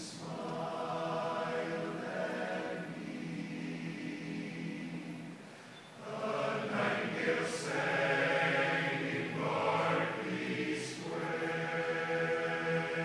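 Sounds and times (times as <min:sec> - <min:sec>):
men's chorus singing a cappella: 0:00.0 - 0:05.3, 0:06.0 - 0:13.0.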